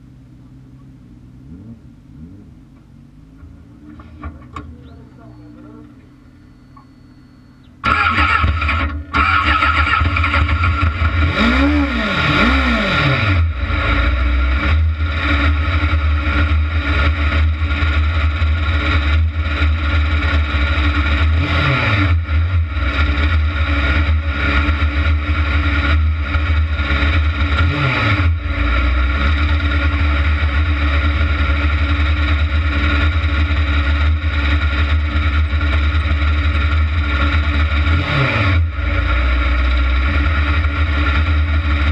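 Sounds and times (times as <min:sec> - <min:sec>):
buggy engine idling and revving: 0:00.0 - 0:41.9.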